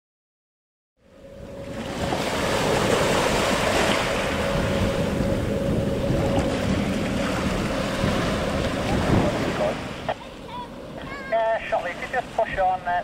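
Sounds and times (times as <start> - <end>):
steady hum: 1.0 - 12.4
wind rushing over microphone: 1.0 - 12.8
waves on water: 1.0 - 13.0.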